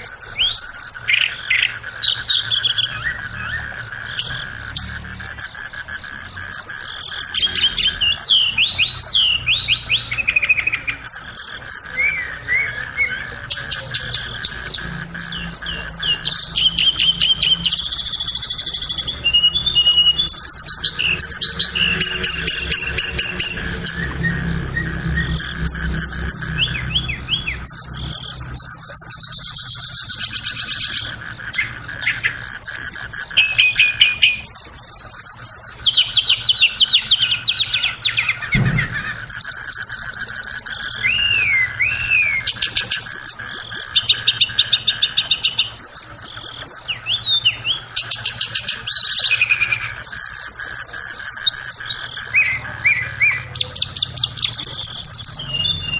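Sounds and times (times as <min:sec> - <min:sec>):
flycatcher song whistles and trills: 0:00.0 - 0:55.9.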